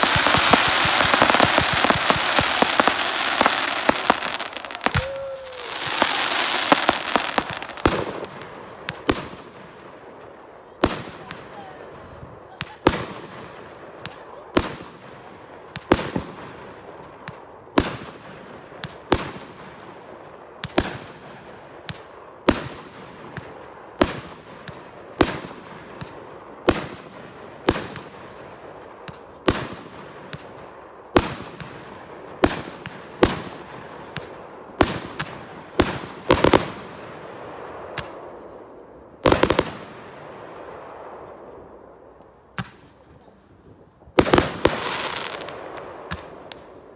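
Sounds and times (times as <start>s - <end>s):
fireworks bangs with echo: 0.0s - 43.3s, 44.1s - 46.9s.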